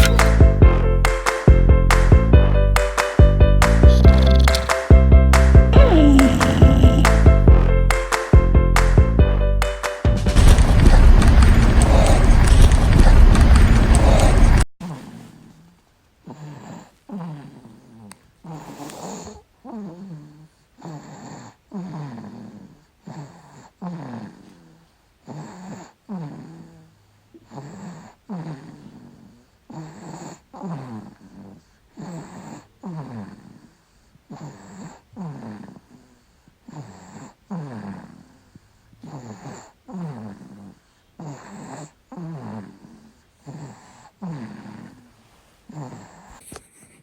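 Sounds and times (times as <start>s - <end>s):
baby snoring: 3.9s - 4.9s, 5.7s - 7.7s, 10.4s - 47.0s.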